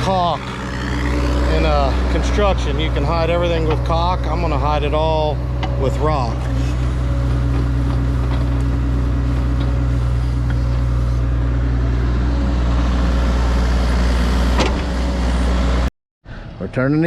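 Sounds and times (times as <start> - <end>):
engine knocks: 0.0 - 15.5
diesel engine running: 0.0 - 16.9.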